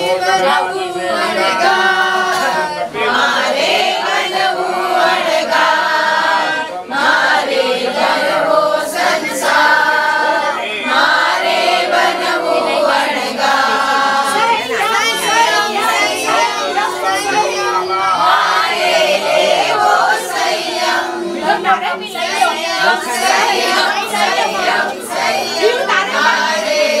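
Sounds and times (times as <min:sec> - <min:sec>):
group singing devotional song: 0:00.0 - 0:27.0.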